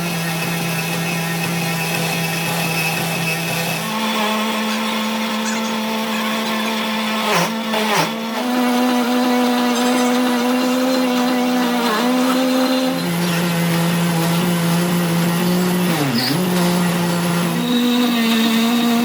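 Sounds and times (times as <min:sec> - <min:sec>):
electric machine motor humming: 0:00.0 - 0:19.0.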